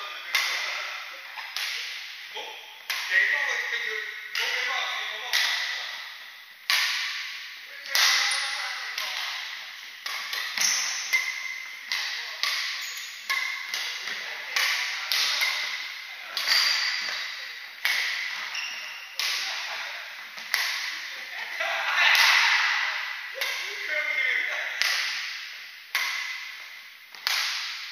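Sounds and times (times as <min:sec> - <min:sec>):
rackets hitting shuttlecock: 0:00.0 - 0:06.0, 0:06.6 - 0:24.0, 0:24.6 - 0:27.9.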